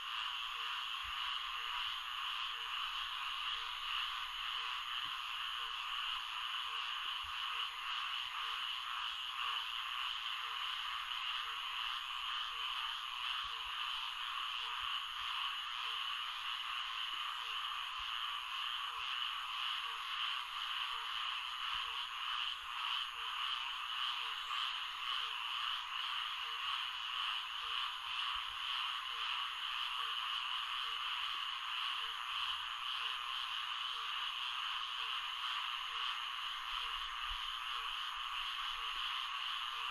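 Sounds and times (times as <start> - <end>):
chorus of frogs: 0.0 - 39.9
low repeating frog call: 0.0 - 39.9.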